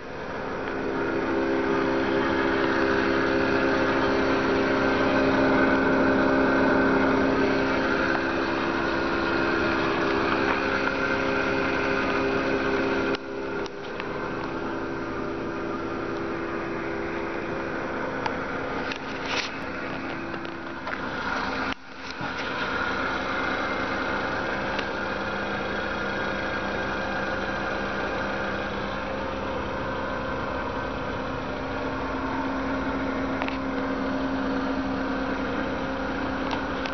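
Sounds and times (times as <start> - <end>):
van engine idling: 0.0 - 36.9.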